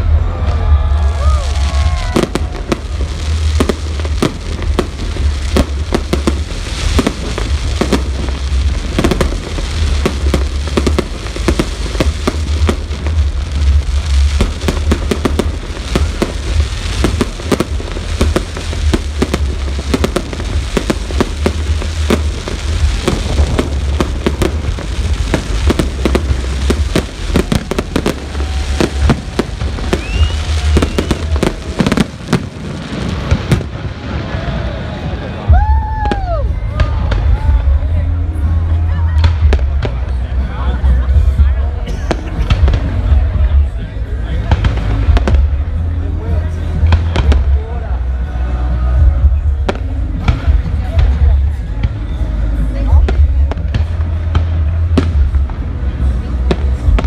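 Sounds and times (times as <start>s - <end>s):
fireworks bangs and crackles: 0.0s - 57.0s
heavy low rumble: 0.0s - 57.0s.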